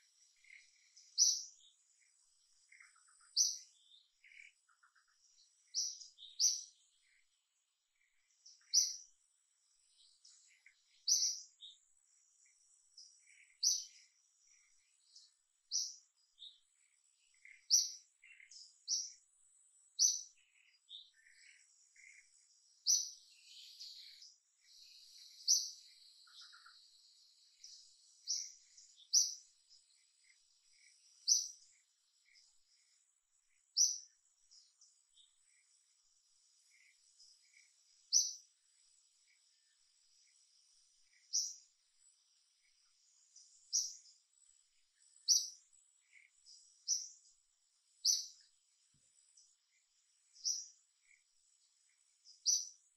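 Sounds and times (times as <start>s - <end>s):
bird chirping: 0.0s - 52.9s
faint high-pitched hum: 0.0s - 52.9s.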